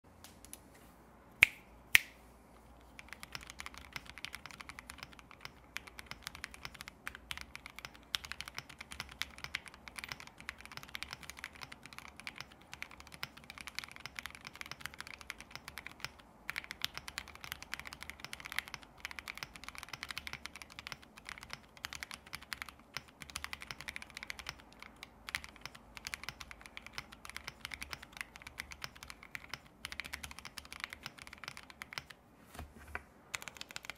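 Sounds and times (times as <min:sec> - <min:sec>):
mechanical keyboard typing: 0:02.8 - 0:32.2, 0:33.3 - 0:33.9.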